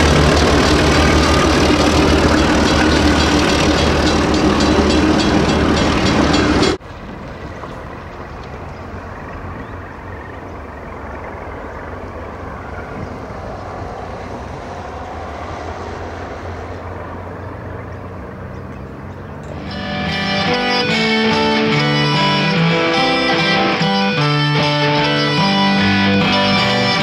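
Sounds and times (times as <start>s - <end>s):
diesel locomotive engines passing: 0.0s - 27.0s
freight wagons rumbling on track: 0.0s - 27.0s.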